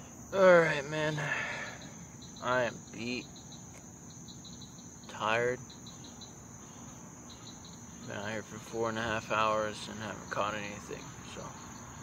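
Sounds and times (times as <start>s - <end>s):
crickets and insects droning: 0.0s - 12.0s
insect chirps: 0.0s - 12.0s.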